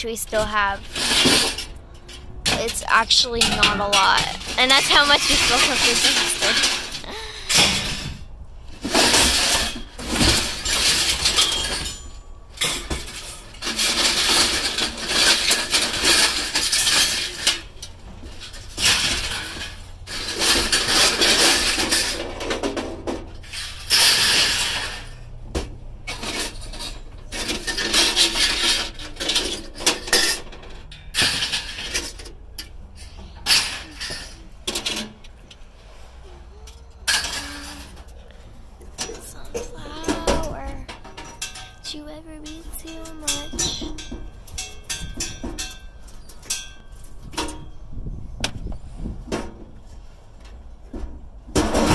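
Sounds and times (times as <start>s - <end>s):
hard scrap objects clattering: 0.4s - 36.2s, 37.0s - 47.7s.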